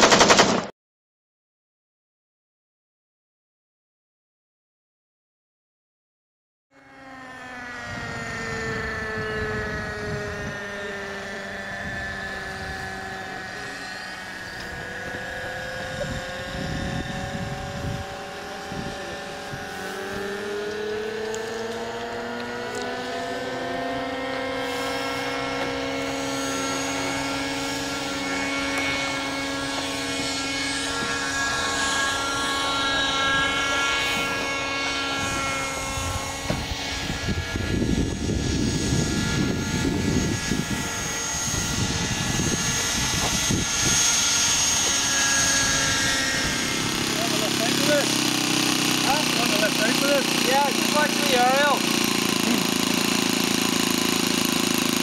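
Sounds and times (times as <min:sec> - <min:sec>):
model aircraft engine running: 0:06.7 - 0:55.0.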